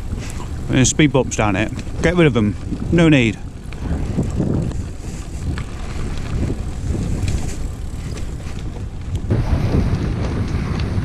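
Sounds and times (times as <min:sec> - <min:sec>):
bicycle rumble on rough path: 0:00.0 - 0:11.0
light ticks and rattles: 0:00.0 - 0:11.0
wind buffeting microphone: 0:00.0 - 0:11.0.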